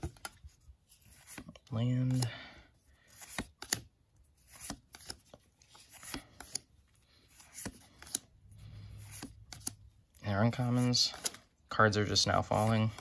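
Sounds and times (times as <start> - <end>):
cards swishing and snapping: 0.0 - 2.3, 3.0 - 13.0.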